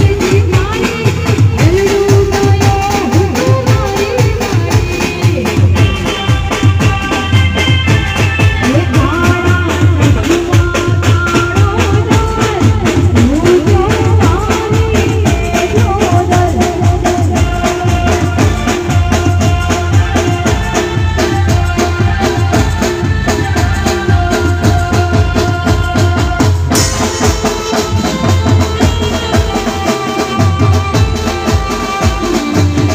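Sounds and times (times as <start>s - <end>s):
fast drum beat: 0.0s - 32.9s.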